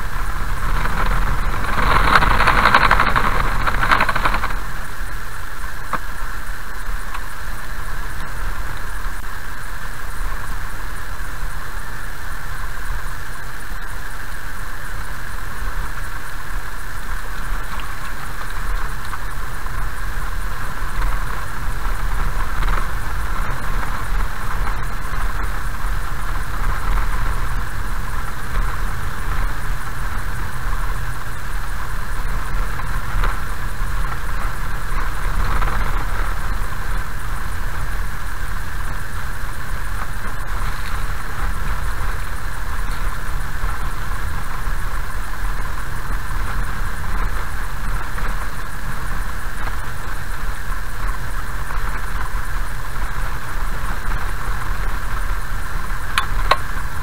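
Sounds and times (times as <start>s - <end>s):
car rumbling on gravel: 0.0s - 57.0s
road noise hiss: 0.0s - 57.0s.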